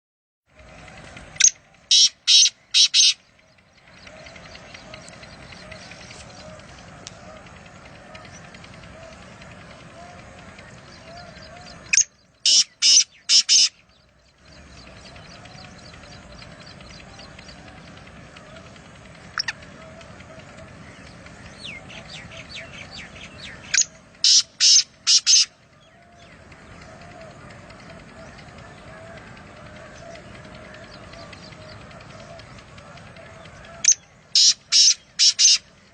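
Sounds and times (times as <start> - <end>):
bird calling arched notes: 0.5 - 35.9
birds chattering high ticks: 0.6 - 35.9.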